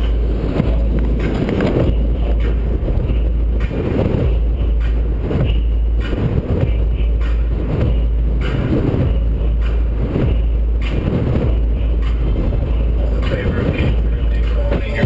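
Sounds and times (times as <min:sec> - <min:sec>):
road noise: 0:00.0 - 0:15.0
wind rumble: 0:00.0 - 0:15.0.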